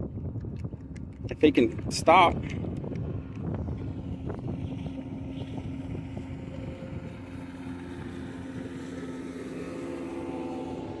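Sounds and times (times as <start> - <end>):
engine running: 0.2 - 11.0.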